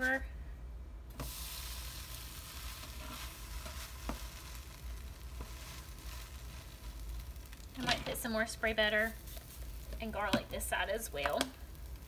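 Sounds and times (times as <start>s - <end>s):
sandwich sizzling in a pan: 1.2s - 12.0s.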